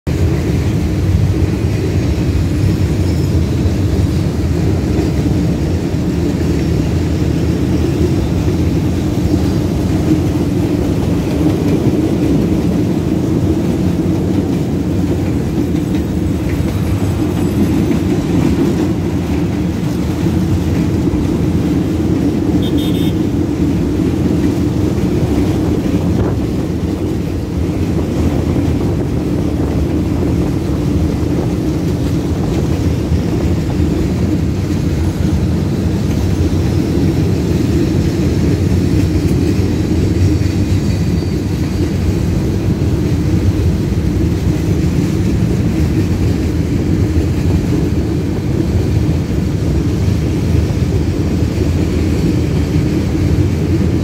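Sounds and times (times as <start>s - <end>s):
freight train passing: 0.0s - 54.0s.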